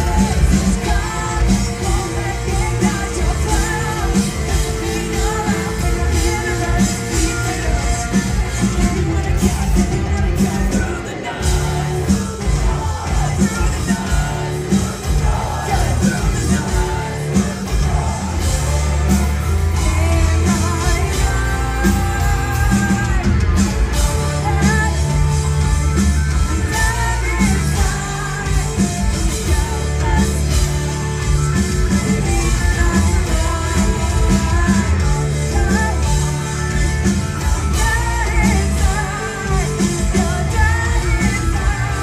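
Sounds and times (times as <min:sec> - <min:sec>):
live rock band: 0:00.0 - 0:42.0
woman singing: 0:00.0 - 0:42.0.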